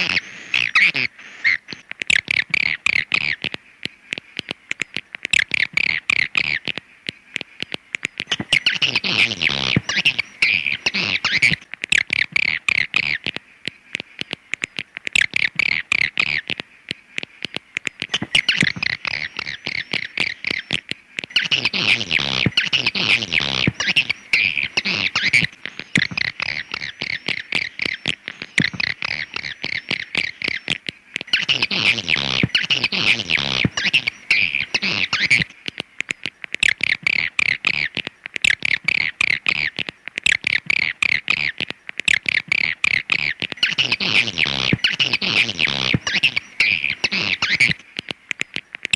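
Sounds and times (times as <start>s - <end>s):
swiftlet chattering twitters and clicks: 0.0s - 48.9s.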